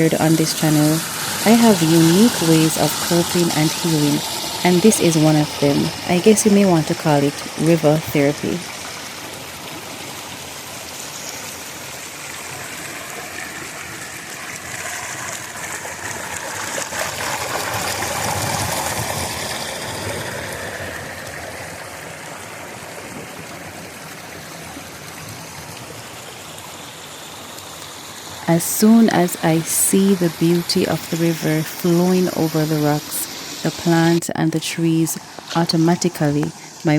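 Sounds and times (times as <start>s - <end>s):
river water rushing over rocks: 0.0s - 36.9s.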